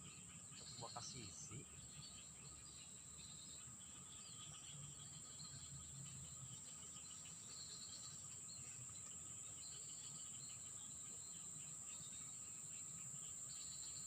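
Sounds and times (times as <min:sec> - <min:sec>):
crickets trilling: 0:00.0 - 0:14.0
short insect chirps: 0:00.0 - 0:14.0.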